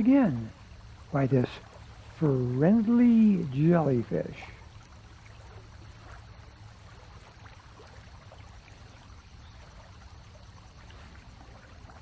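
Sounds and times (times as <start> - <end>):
low hum and hiss: 0.0 - 12.0
water trickling and lapping: 0.0 - 12.0.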